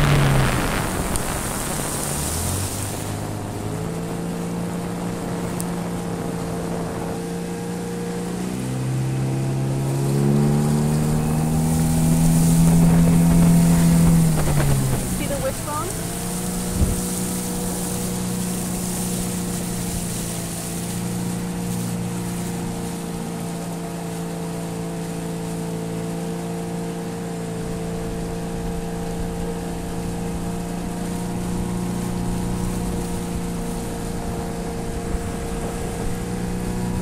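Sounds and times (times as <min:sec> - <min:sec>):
boat motor running: 0:00.0 - 0:37.0.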